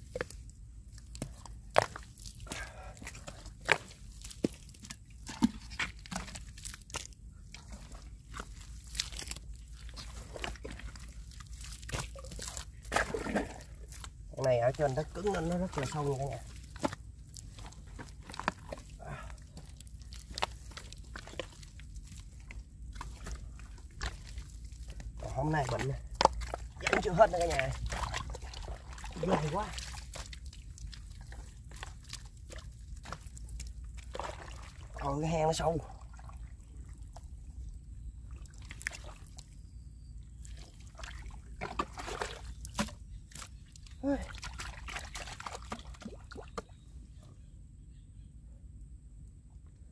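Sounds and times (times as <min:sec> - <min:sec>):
wet clicks and splashes: 0:00.0 - 0:35.1, 0:38.4 - 0:39.6, 0:40.4 - 0:46.8
wet mud squelching: 0:00.0 - 0:46.8.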